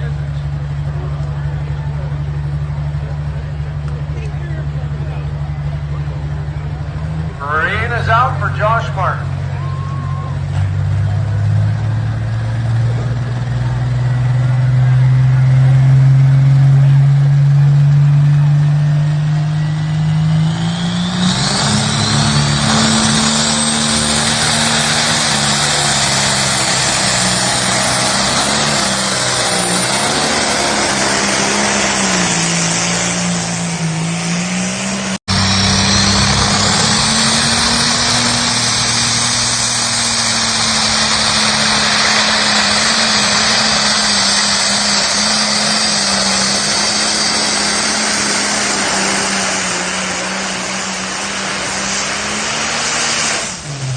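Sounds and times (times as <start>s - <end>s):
tractor engine roaring: 0.0s - 53.9s
rising high whine: 7.3s - 53.9s.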